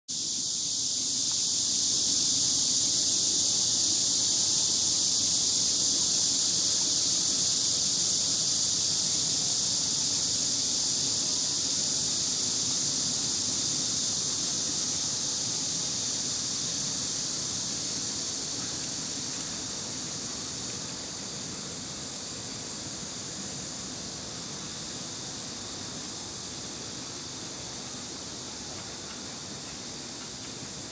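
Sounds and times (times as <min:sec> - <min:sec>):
insect chorus drone: 0:00.1 - 0:30.9.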